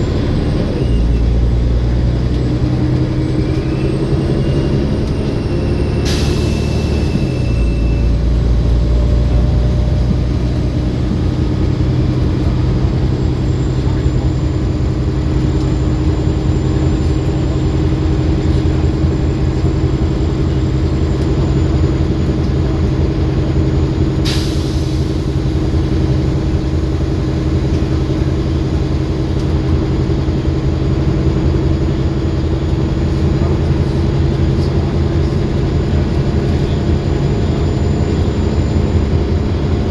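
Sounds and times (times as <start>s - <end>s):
bus diesel engine running: 0.0s - 39.9s
turbo whine: 0.0s - 39.9s.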